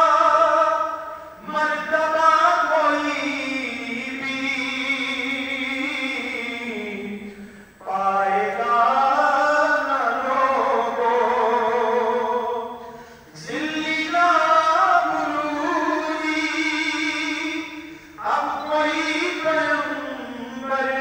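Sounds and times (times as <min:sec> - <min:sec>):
unaccompanied chant-like singing: 0:00.0 - 0:21.0.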